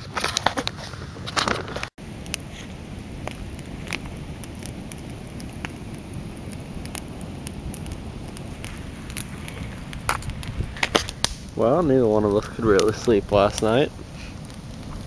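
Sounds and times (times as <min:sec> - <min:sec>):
light rain pattering: 0:02.0 - 0:15.0.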